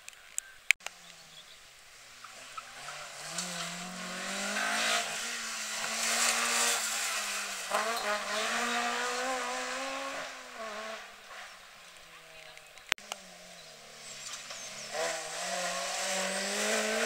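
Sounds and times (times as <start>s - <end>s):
rally car engine revving: 0.9s - 17.0s
gear change: 2.1s - 17.0s.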